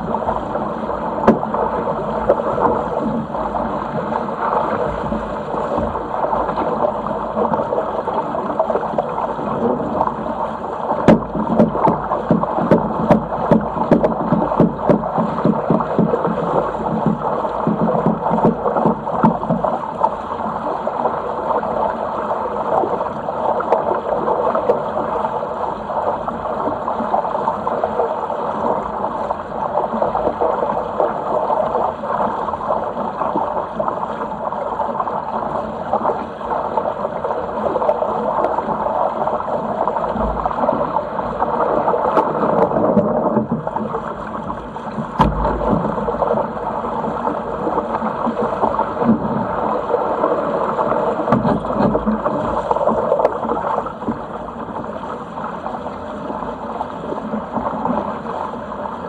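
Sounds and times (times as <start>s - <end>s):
water rushing past hull: 0.0s - 59.0s.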